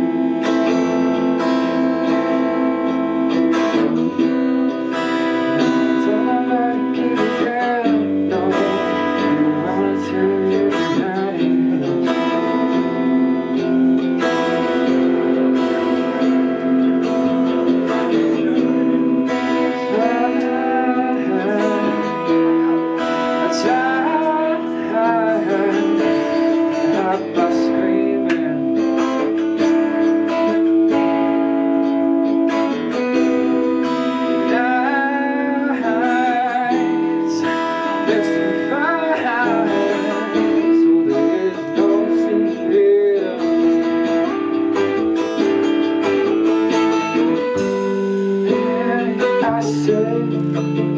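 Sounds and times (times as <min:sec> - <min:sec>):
live rock band playing: 0:00.0 - 0:50.9
wavering lead guitar: 0:00.0 - 0:50.9.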